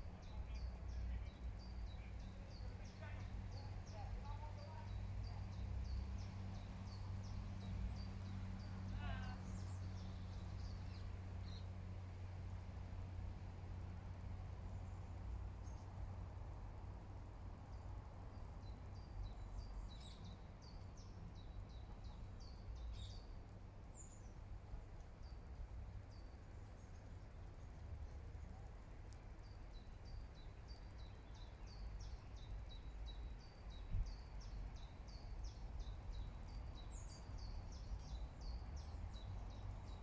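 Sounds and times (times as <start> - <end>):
songbird chirping: 0.0 - 40.0.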